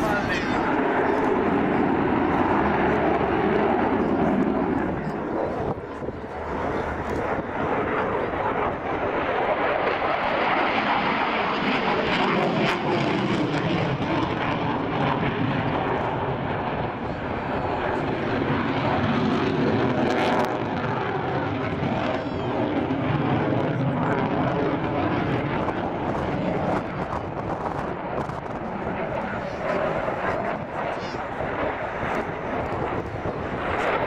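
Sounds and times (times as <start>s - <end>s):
jet engine noise overhead: 0.0s - 34.0s.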